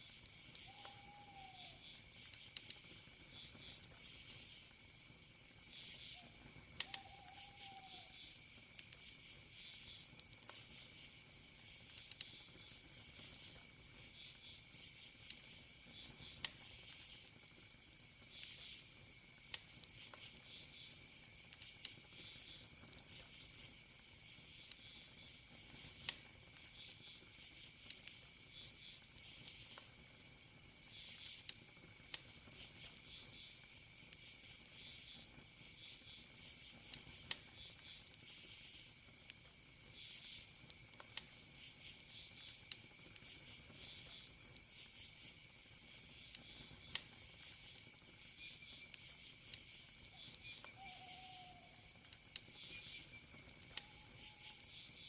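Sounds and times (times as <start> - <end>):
campfire crackling and popping: 0.0 - 55.0
crickets chirring: 0.0 - 55.0.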